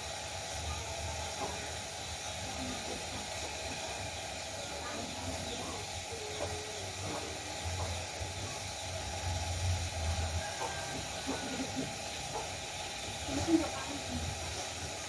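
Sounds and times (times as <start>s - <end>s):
food hissing in a pan: 0.0s - 15.0s.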